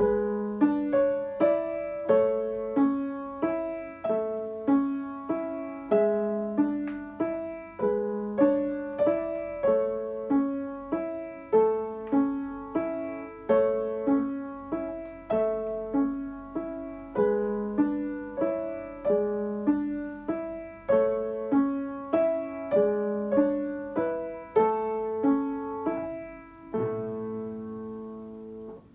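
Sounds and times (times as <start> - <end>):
upright piano piece: 0.0 - 28.9.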